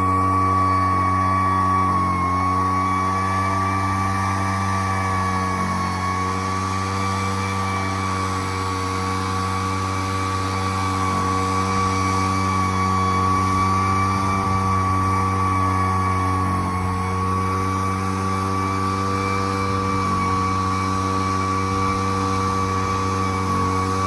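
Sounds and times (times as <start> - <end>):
leaf blower running: 0.0 - 24.0.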